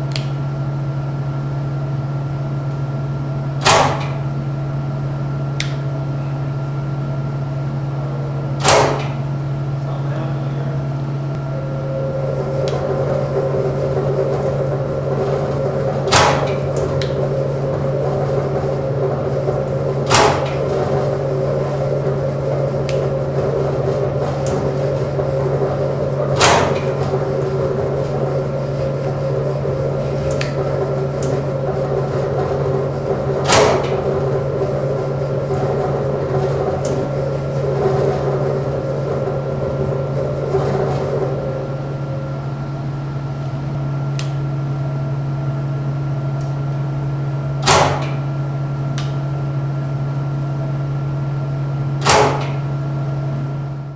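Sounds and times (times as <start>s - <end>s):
shake table machine hum: 0.0s - 53.9s
higher machine tone: 4.3s - 47.6s.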